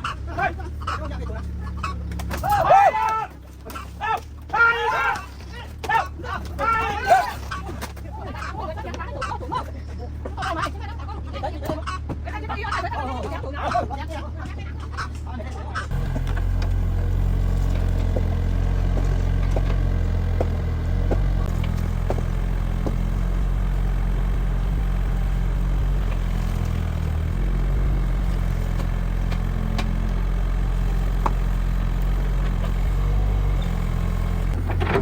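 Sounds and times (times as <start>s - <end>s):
engine low rumble: 0.0s - 35.0s.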